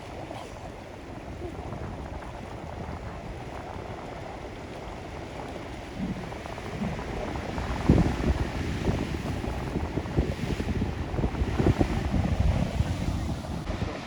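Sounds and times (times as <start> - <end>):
ocean water washing ashore: 0.0 - 14.0
wind noise on microphone: 0.0 - 14.0.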